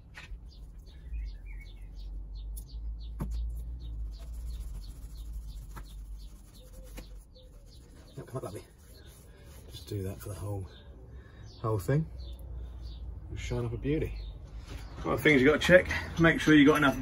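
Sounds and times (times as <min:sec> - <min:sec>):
small songbird chirping: 0:00.0 - 0:15.5.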